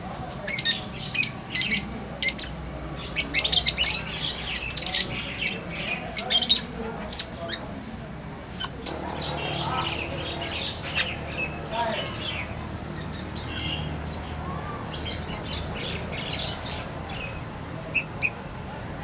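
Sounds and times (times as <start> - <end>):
birds squawking and chirping: 0.4 - 7.8, 8.6 - 18.4.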